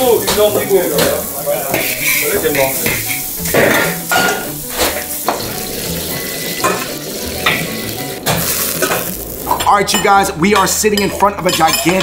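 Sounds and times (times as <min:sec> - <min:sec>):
rice sizzling in a wok: 0:00.0 - 0:11.8.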